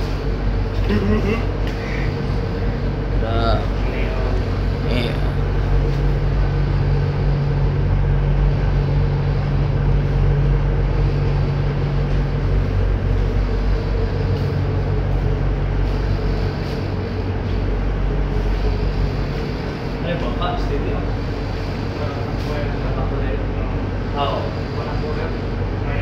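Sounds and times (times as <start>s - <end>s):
ship engine low drone: 0.0s - 26.0s.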